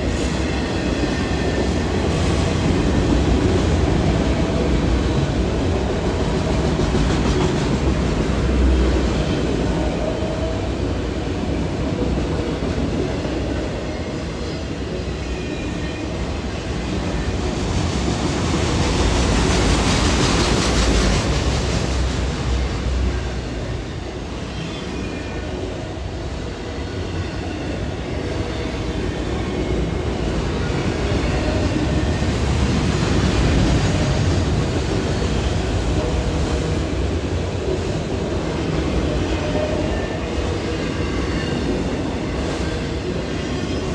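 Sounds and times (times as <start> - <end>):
freight train wheels rumbling on rails: 0.0 - 43.9.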